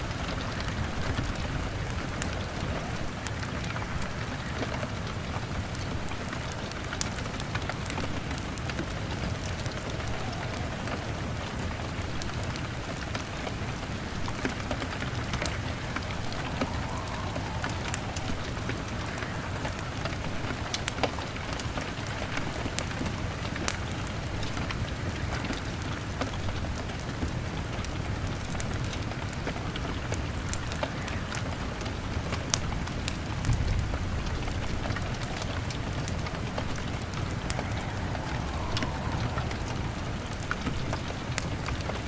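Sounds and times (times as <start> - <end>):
rain pattering on window glass: 0.0 - 42.0
wood fire crackling: 0.0 - 42.0.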